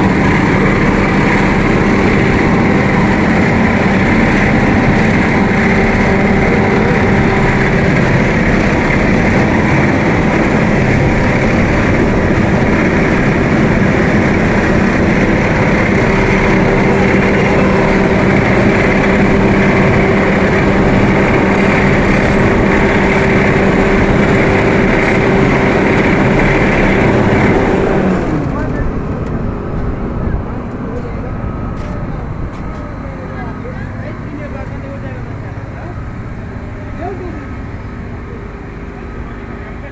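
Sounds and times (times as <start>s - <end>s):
diesel engine and machinery: 0.0s - 39.9s.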